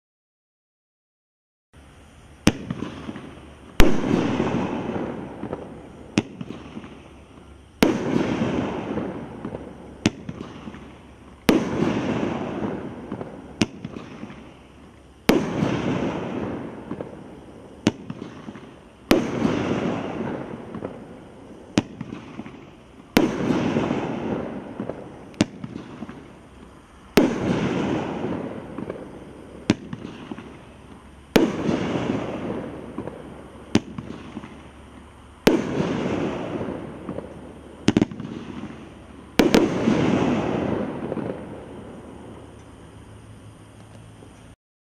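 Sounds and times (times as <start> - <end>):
firework burst: 1.8 - 44.6.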